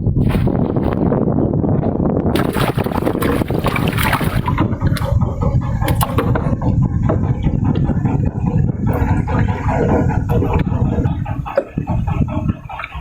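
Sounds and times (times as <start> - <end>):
boat motor rumble: 0.0 - 13.0.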